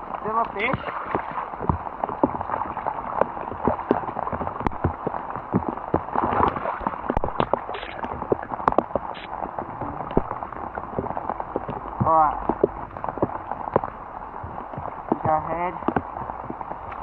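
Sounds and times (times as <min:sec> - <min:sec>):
heavy rain hissing: 0:00.0 - 0:17.0
sharp ticks and knocks: 0:00.1 - 0:17.0.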